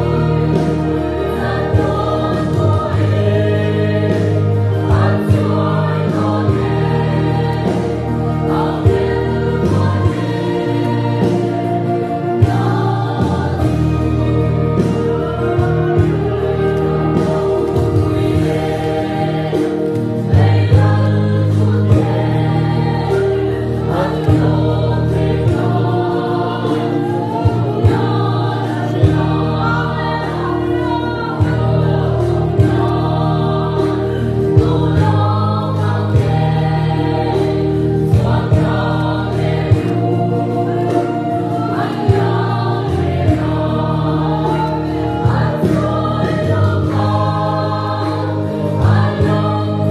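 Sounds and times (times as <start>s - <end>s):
mixed choir singing: 0.0s - 49.9s.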